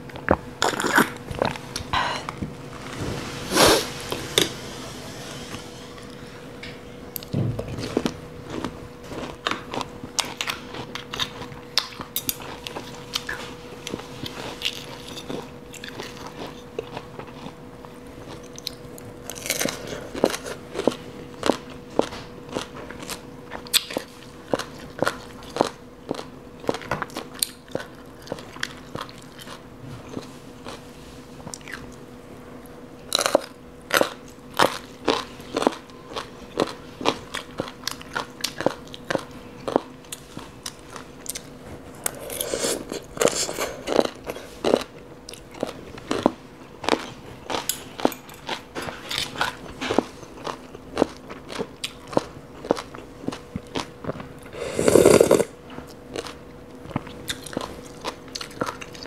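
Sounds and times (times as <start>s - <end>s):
crunchy chewing: 0.0s - 2.4s, 7.2s - 32.0s, 33.1s - 59.0s
faint steady hum: 0.0s - 59.0s.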